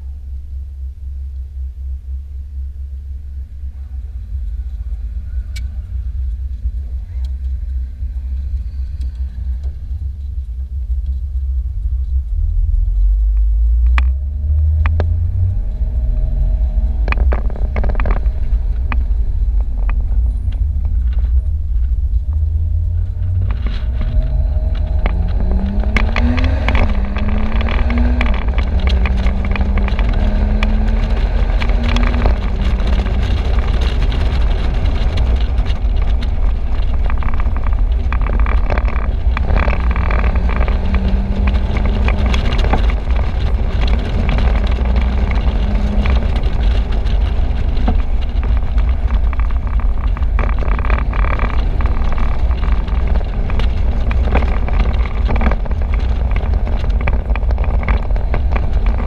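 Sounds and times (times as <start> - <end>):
car engine hum: 0.0 - 59.0
tyre and road noise: 0.0 - 59.0
wind buffeting microphone: 3.9 - 59.0.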